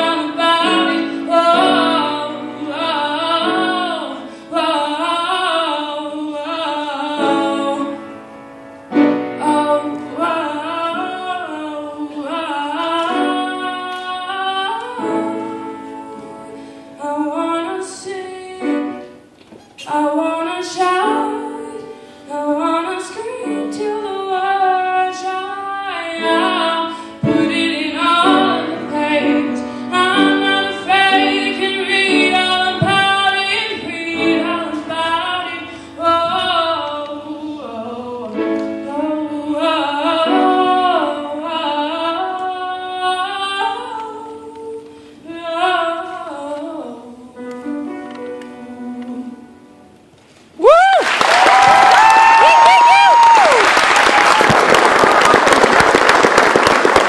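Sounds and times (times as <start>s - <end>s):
woman singing a slow ballad: 0.0s - 8.2s, 9.0s - 19.2s, 19.8s - 50.0s
grand piano: 0.0s - 57.0s.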